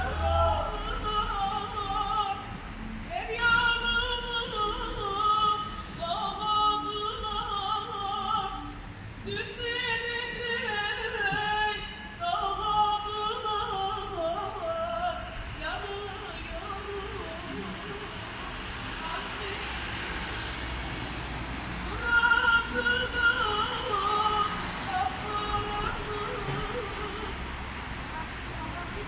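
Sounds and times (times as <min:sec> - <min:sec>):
person singing with vibrato: 0:00.0 - 0:29.0.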